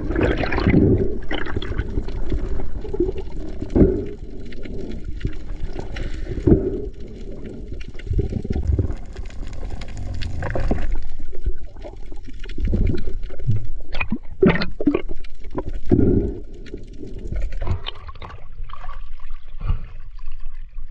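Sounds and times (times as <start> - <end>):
water rushing underwater: 0.0 - 20.9.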